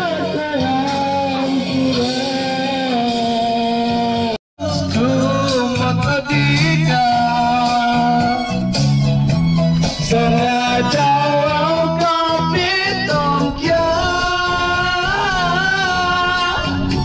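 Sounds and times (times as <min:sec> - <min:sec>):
man singing karaoke: 0:00.0 - 0:09.2, 0:09.8 - 0:17.0
backing track chords: 0:00.0 - 0:17.0.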